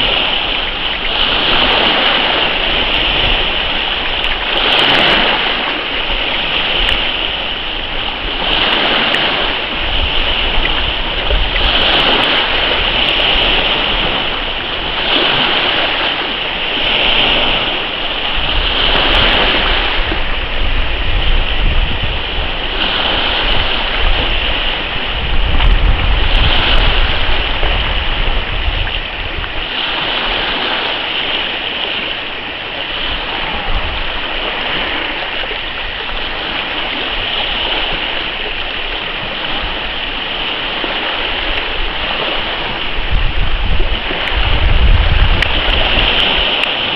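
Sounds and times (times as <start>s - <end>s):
sea water splashing and rushing: 0.0s - 46.9s
wind rumbling on microphone: 0.0s - 46.9s.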